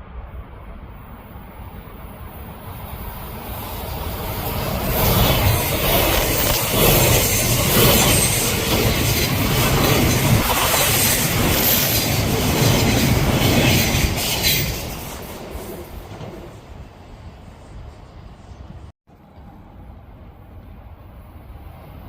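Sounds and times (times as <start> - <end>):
electric train passing on rails: 0.0 - 22.0.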